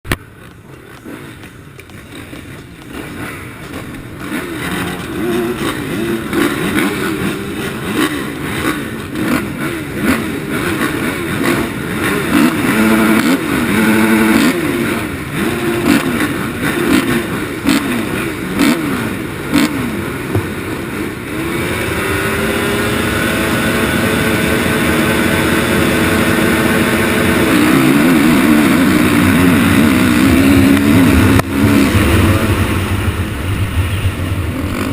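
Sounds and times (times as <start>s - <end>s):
motocross bike engines revving: 0.1s - 34.9s.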